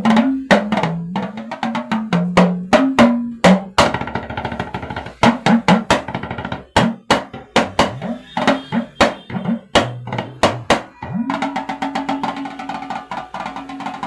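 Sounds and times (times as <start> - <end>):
talking drum pitch-bending strokes: 0.0 - 14.0.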